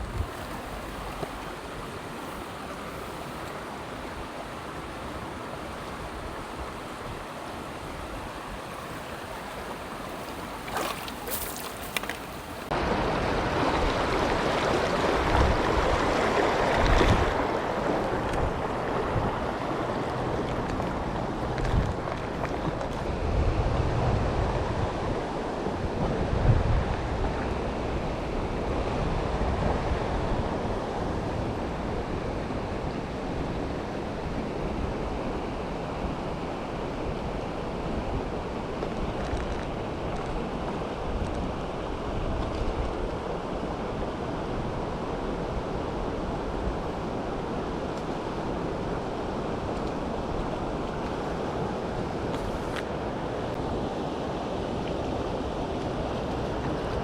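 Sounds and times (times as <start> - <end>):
river water rushing: 0.0 - 26.4, 27.0 - 57.0
wind buffeting microphone: 0.0 - 57.0.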